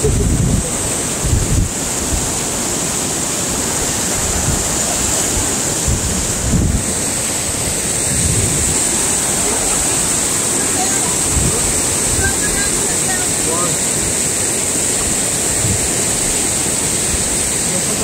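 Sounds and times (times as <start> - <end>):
wind buffeting microphone: 0.0 - 2.8, 3.5 - 18.0
stream flowing: 0.0 - 18.0.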